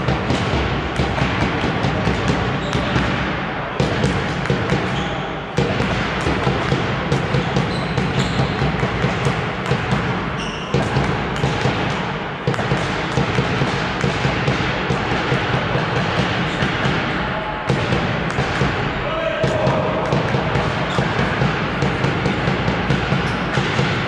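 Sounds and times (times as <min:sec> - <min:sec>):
balls bouncing on hall floor: 0:00.0 - 0:24.0.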